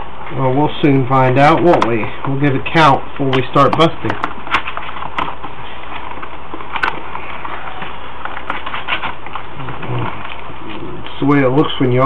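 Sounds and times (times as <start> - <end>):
steady low hum and hiss: 0.0 - 12.0.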